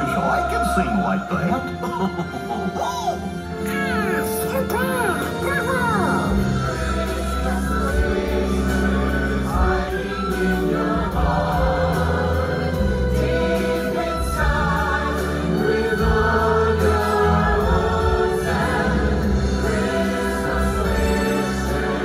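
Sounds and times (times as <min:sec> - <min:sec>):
choir singing christmas music: 0:00.0 - 0:22.0.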